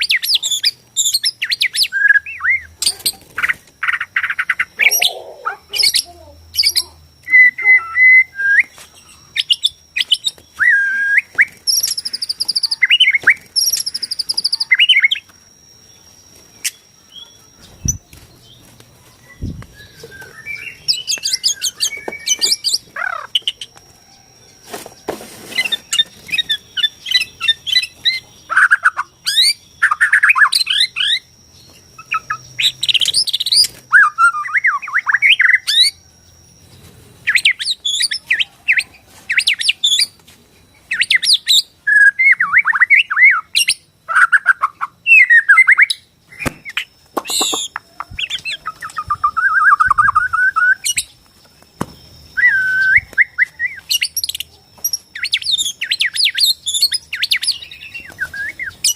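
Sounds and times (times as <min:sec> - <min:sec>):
bird singing whistles and trills: 0:00.0 - 0:24.6, 0:25.5 - 0:58.9
thin high whine: 0:00.0 - 0:58.9.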